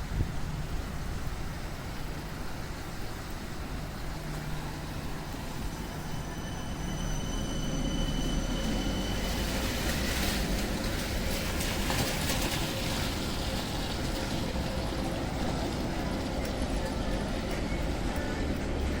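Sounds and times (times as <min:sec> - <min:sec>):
tram high whine: 0:00.0 - 0:19.0
tram wheels rolling: 0:00.0 - 0:19.0.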